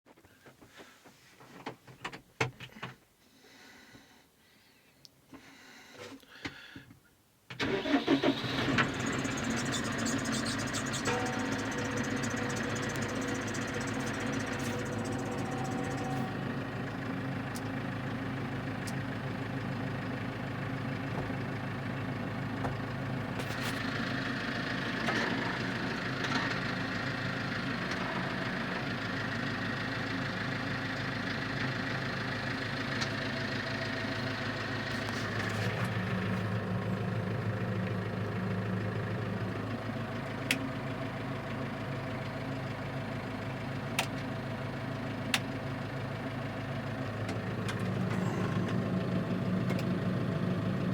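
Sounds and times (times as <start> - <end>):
tractor diesel engine idling: 7.6 - 50.9.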